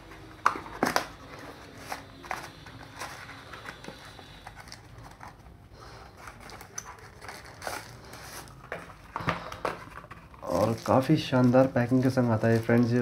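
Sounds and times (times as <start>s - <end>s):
cardboard packaging being opened: 0.0s - 13.0s.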